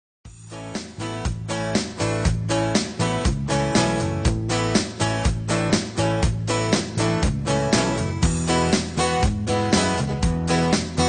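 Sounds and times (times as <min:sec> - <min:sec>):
background music with beat: 0:00.3 - 0:11.0.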